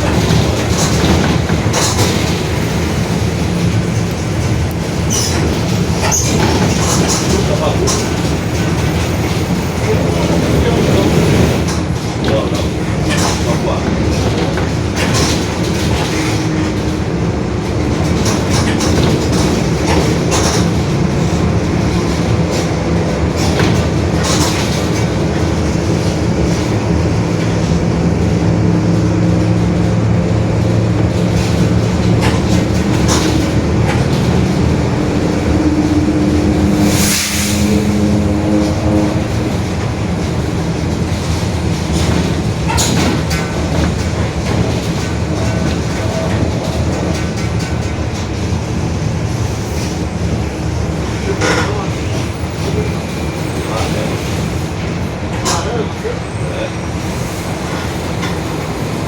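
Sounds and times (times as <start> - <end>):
bus diesel engine running: 0.0 - 59.0
road rumble: 0.0 - 59.0.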